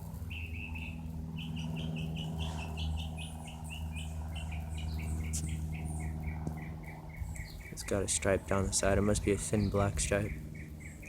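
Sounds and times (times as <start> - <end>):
propeller engine drone: 0.0 - 11.0
small birds chirping: 0.0 - 11.0.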